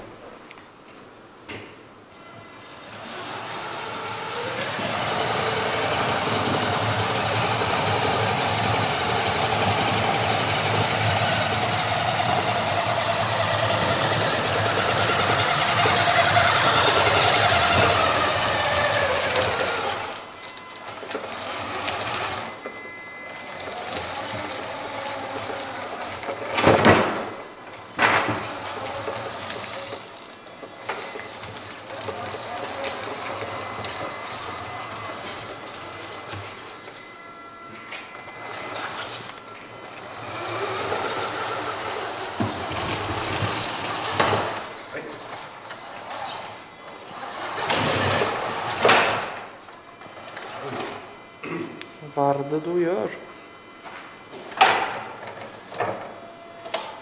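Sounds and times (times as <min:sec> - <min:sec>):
toy truck electric motor whining: 0:02.2 - 0:51.3.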